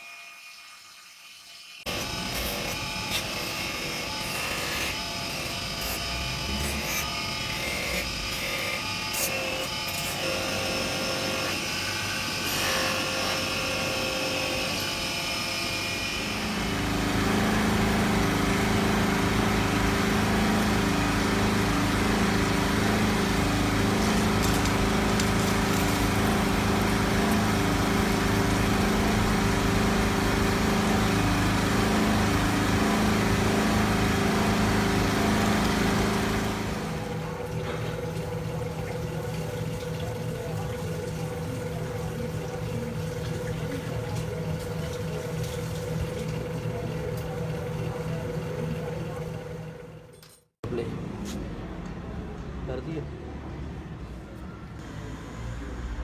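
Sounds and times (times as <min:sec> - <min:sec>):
motor-driven machine running: 0:01.8 - 0:50.1.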